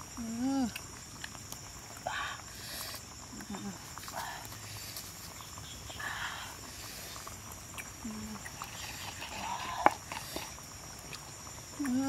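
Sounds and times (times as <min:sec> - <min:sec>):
faint small sounds: 0:00.0 - 0:12.0
high insect drone: 0:00.0 - 0:12.0.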